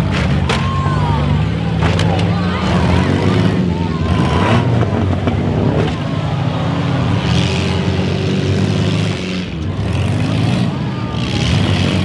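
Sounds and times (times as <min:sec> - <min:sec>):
car engines running loudly: 0:00.0 - 0:12.0.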